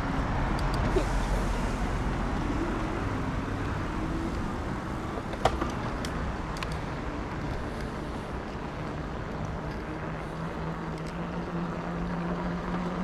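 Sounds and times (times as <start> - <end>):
low rumble of wind: 0.0 - 13.0
road traffic noise: 0.0 - 13.0.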